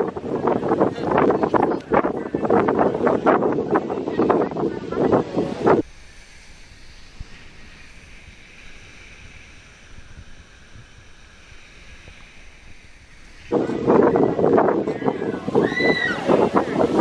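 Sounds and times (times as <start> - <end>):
small waves washing onto shore: 0.0 - 17.0
wind on microphone: 0.0 - 17.0.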